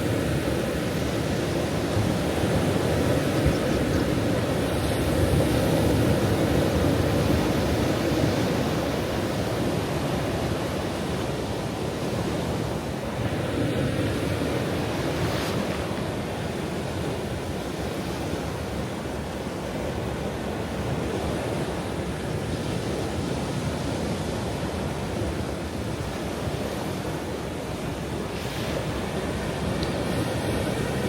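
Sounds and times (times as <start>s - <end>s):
ocean waves breaking on shore: 0.0s - 31.0s.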